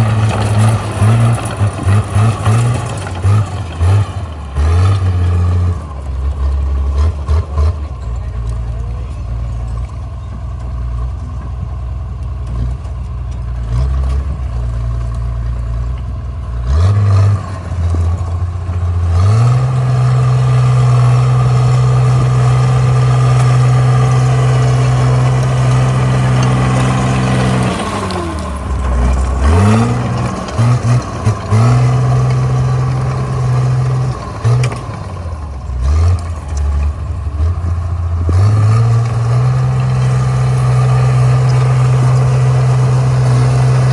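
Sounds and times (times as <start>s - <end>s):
bulldozer diesel engine revving: 0.0s - 43.9s.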